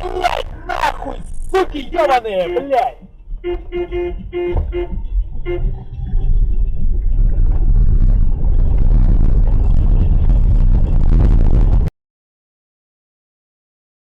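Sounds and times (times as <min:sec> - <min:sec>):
moving car rumble: 0:00.0 - 0:11.9.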